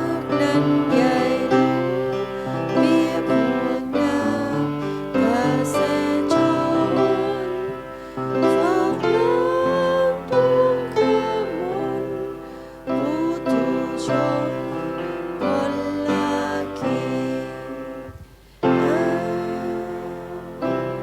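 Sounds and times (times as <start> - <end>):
piano music with gliding melody: 0.0 - 21.0.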